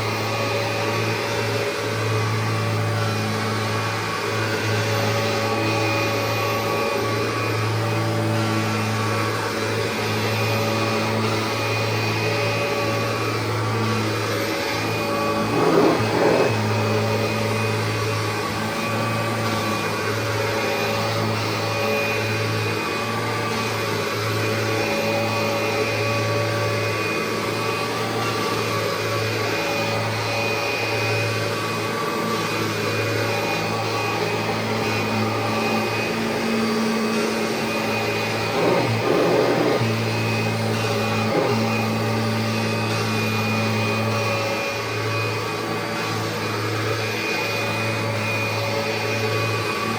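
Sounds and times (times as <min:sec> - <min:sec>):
vacuum cleaner running on carpet: 0:00.0 - 0:49.9.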